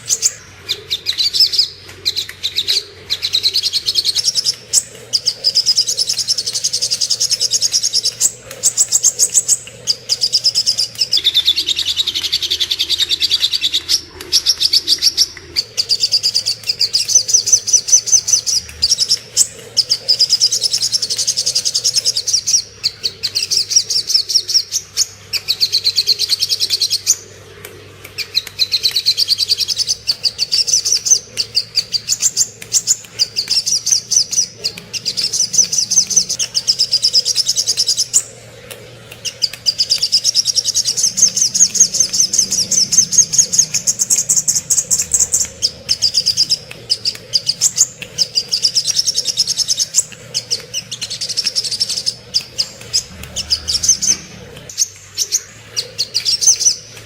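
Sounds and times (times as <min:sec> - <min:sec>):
bird singing rapid trills: 0:00.0 - 0:27.2, 0:28.2 - 0:57.0.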